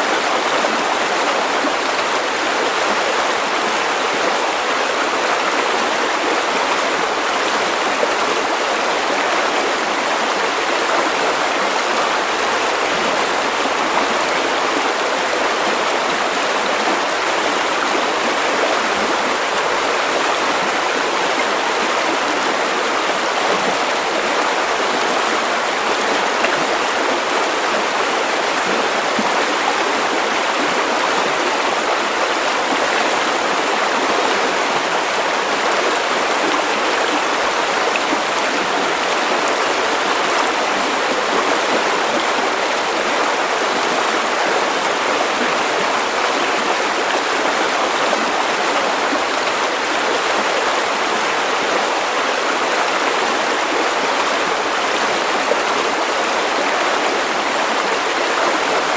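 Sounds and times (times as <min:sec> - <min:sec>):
river water over stones: 0:00.0 - 0:58.9.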